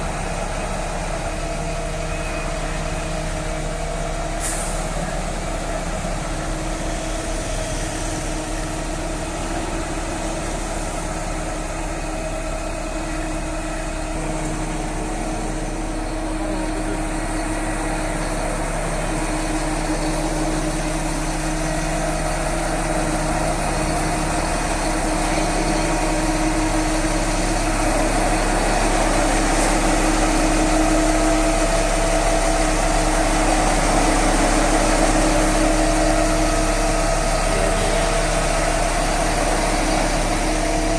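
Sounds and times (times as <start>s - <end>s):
diesel engine humming: 0.0s - 40.9s.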